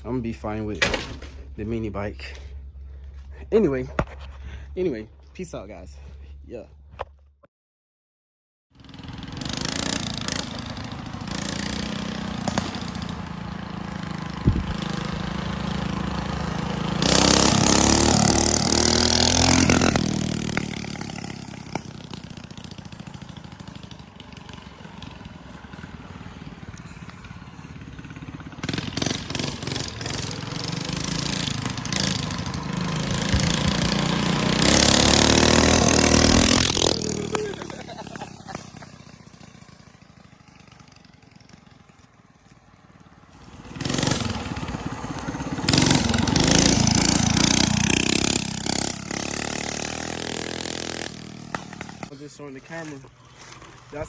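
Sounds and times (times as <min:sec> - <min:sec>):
minibike engine running: 0:08.8 - 0:54.0.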